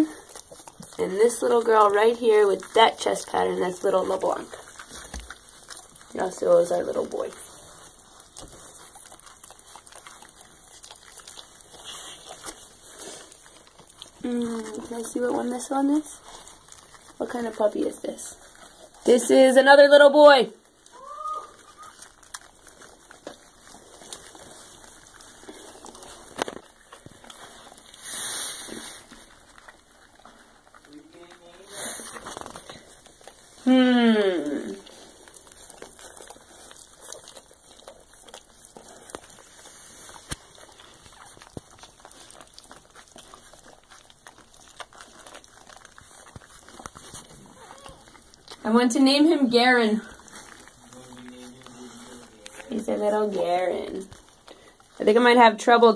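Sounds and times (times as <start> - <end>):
dog licking puppies: 0.0 - 55.9.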